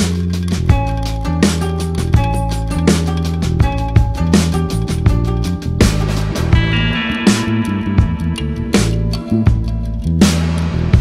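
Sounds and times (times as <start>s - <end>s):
music with percussive beat: 0.0s - 11.0s.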